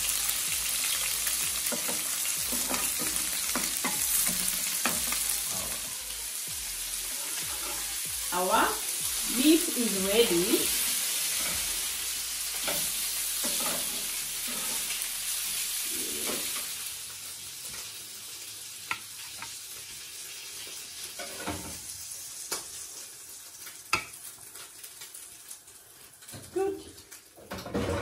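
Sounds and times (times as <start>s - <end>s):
burger patties sizzling: 0.0s - 28.0s.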